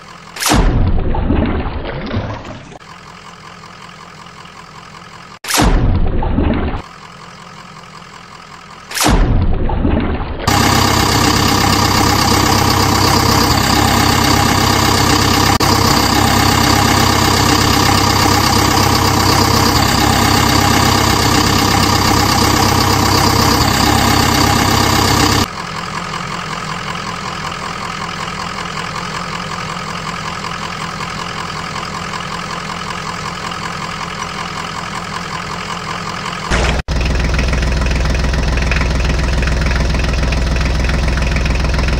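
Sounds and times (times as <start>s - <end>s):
vehicle engine idling: 0.0s - 0.4s, 2.7s - 5.4s, 6.8s - 8.9s, 9.8s - 41.9s.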